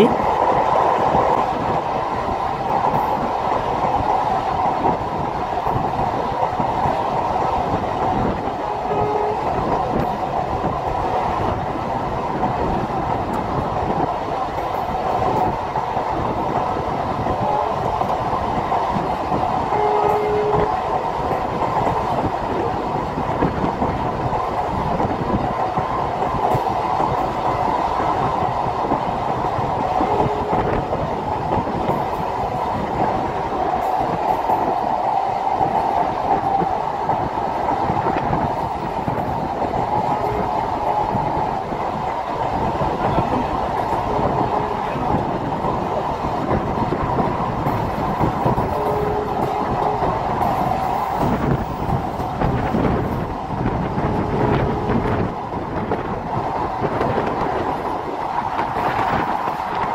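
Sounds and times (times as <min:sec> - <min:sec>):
train running gear rattle: 0:00.0 - 0:59.9
train wheels rushing on rail: 0:00.0 - 0:59.9.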